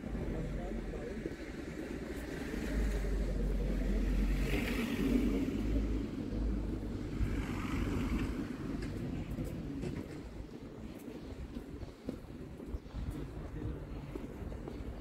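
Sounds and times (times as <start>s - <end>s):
cars passing with tyre noise: 0.0s - 15.0s.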